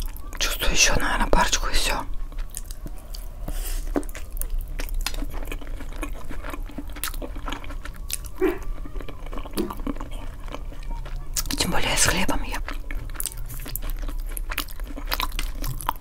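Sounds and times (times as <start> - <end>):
chewing mouth clicks: 2.3 - 16.0.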